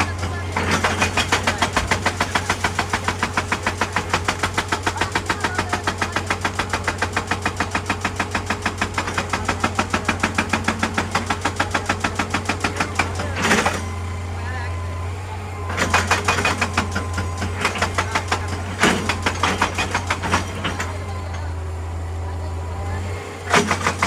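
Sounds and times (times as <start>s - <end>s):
diesel engine droning: 0.0s - 24.0s
hydraulic breaker hammering rock: 0.0s - 24.0s.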